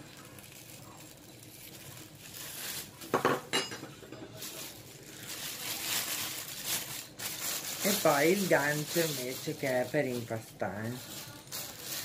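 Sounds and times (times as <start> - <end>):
plastic bag crinkling: 0.0 - 3.4, 4.3 - 12.0.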